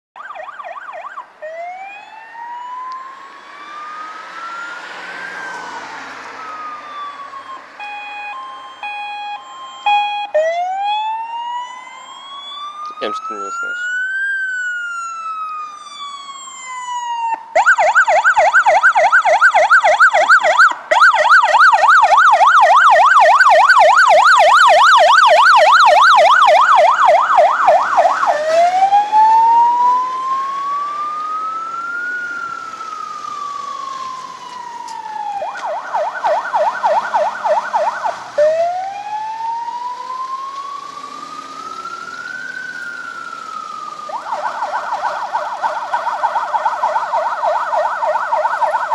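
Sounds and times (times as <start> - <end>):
emergency vehicle siren wailing and yelping: 0.2 - 48.9.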